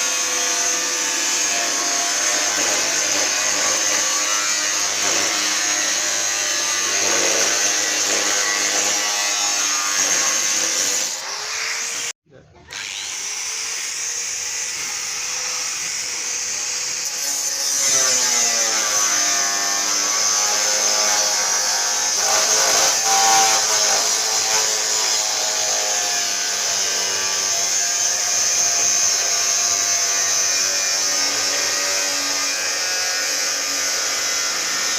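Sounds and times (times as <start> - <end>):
angle grinder cutting steel: 0.0 - 34.9.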